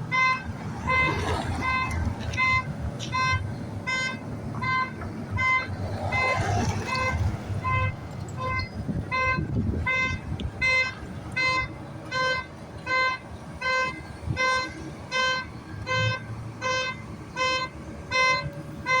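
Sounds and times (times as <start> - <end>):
reversing alarm beeping: 0.1 - 19.0.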